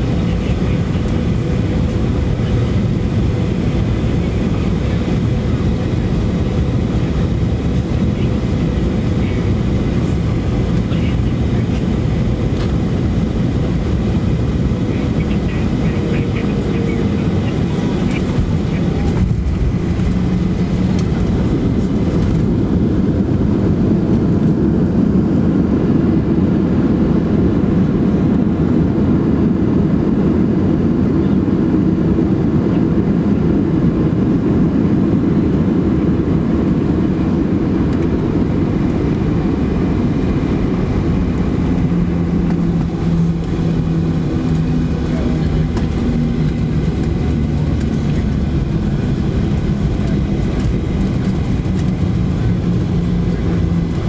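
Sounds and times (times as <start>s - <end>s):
airplane cabin engine roar: 0.0s - 54.0s.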